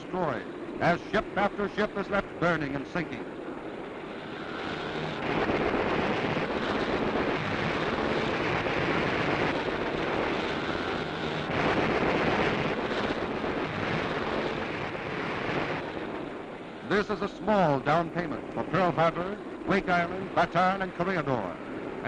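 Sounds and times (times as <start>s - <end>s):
warplane engines droning: 0.0s - 22.0s.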